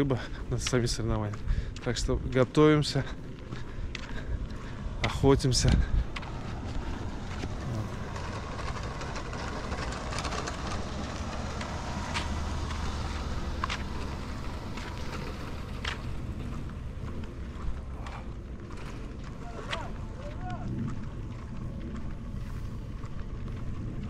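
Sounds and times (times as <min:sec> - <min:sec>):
vehicle engine and tyre rumble: 0:00.0 - 0:24.0.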